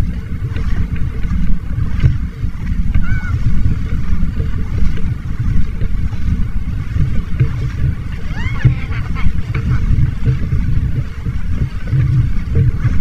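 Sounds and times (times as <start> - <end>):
water sloshing around wading legs: 0.0 - 13.0
wind buffeting microphone: 0.0 - 13.0.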